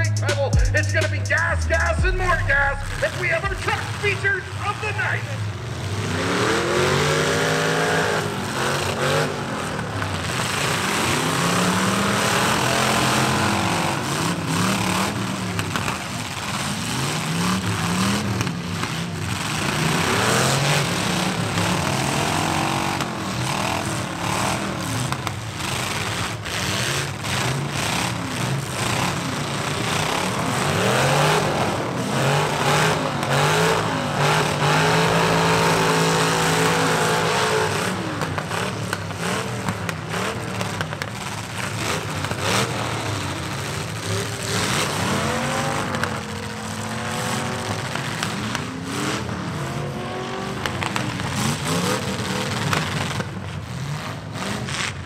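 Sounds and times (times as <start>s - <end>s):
truck engines revving hard: 0.0s - 55.0s.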